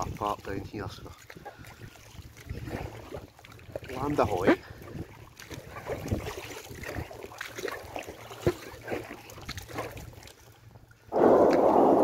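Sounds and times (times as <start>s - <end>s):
paddle splashes: 0.0s - 12.0s.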